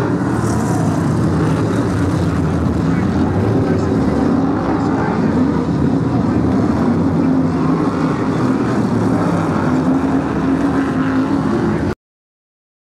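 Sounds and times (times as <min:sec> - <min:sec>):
stock car engines running: 0:00.0 - 0:12.0.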